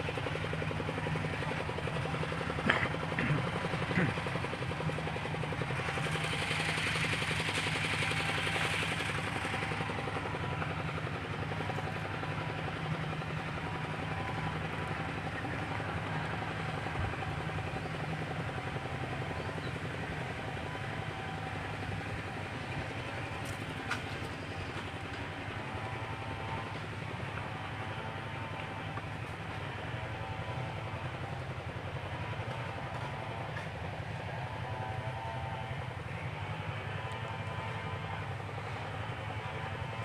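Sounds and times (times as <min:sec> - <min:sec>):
engine running: 0:00.0 - 0:40.0.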